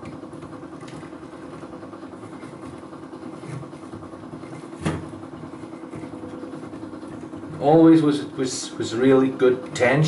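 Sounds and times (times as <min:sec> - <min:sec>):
small motor humming: 0:00.0 - 0:10.0.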